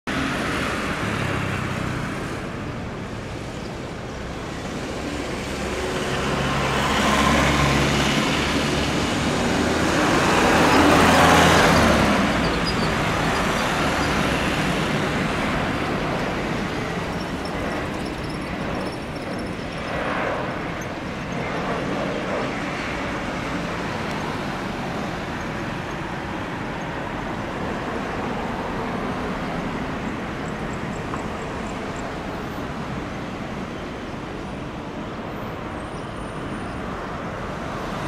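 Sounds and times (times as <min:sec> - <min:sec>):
airliner engines: 0:00.1 - 0:38.0
road traffic rumble: 0:00.1 - 0:38.0.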